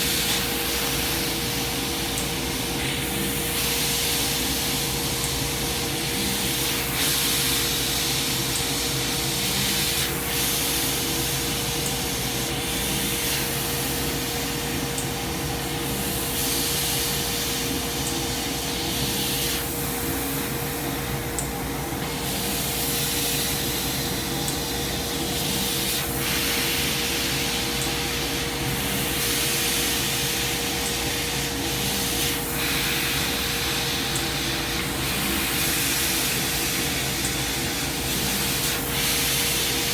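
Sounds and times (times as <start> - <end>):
laser cutter mechanical hum: 0.0 - 39.9.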